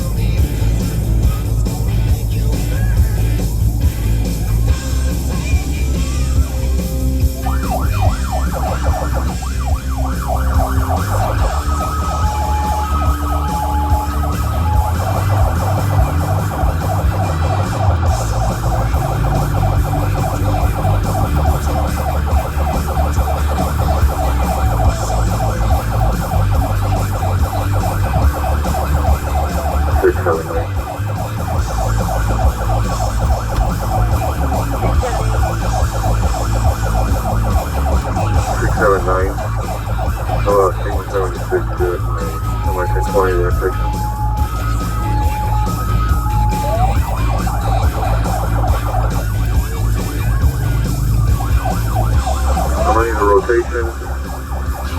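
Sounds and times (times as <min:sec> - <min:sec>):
engine and road noise rumble: 0:00.0 - 0:54.9
police siren yelping: 0:00.0 - 0:54.9.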